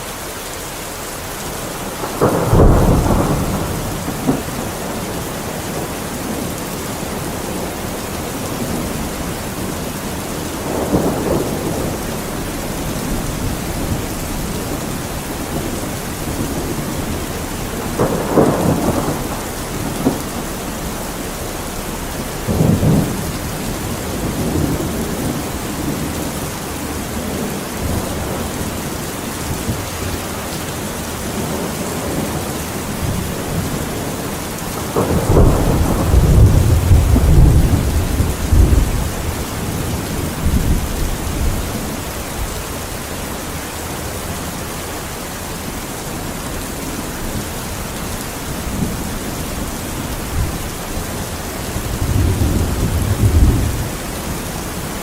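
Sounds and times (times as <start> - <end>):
steady rain: 0.0 - 55.0
thunder rumbling: 1.3 - 55.0.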